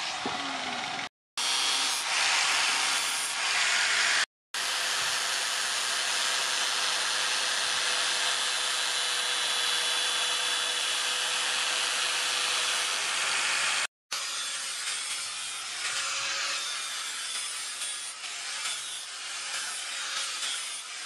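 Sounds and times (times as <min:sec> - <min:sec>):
angle grinder grinding steel: 0:00.0 - 0:21.0.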